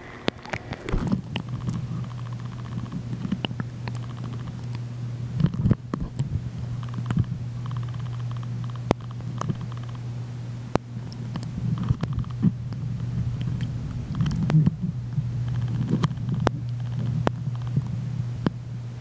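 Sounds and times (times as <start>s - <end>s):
sharp underwater clicks: 0.0s - 10.1s, 10.7s - 18.6s
low underwater hum: 0.0s - 19.0s.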